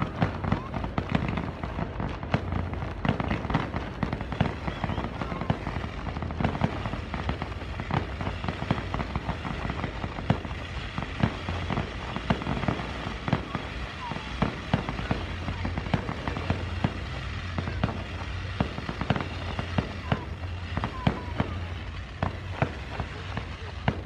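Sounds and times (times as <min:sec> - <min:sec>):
fireworks popping and banging: 0:00.0 - 0:24.0.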